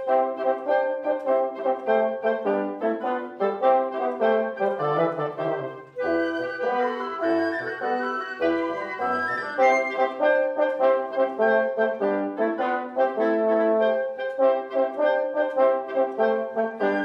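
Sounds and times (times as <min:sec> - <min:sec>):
wind quintet playing chamber music: 0:00.0 - 0:17.0.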